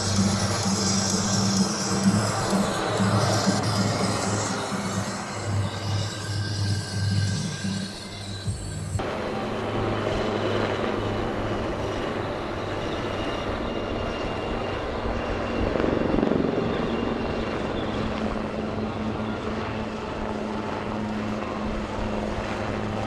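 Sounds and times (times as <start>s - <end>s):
helicopter rotors thrumming: 0.0s - 23.0s.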